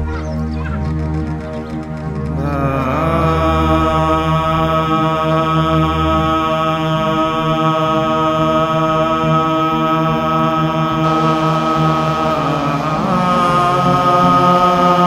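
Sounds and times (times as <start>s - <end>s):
low chanting: 0.0s - 15.0s
sustained drone: 0.0s - 15.0s.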